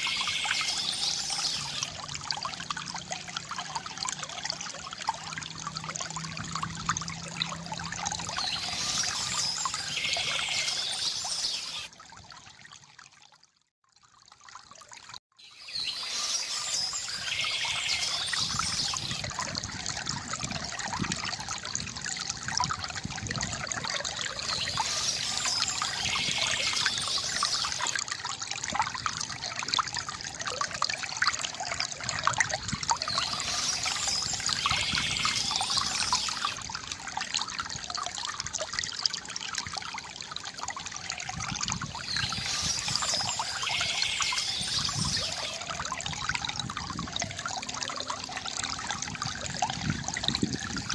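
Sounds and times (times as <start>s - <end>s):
water trickling from a fountain: 0.0s - 50.9s.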